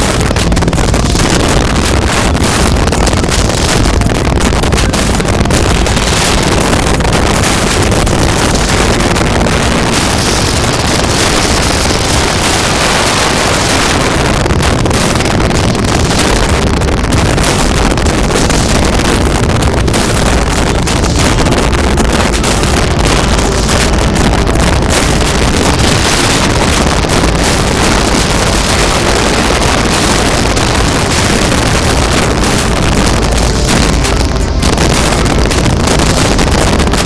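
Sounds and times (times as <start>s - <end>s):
motorcycle engine rumble: 0.0s - 37.0s
wind rushing over microphone: 0.0s - 37.0s.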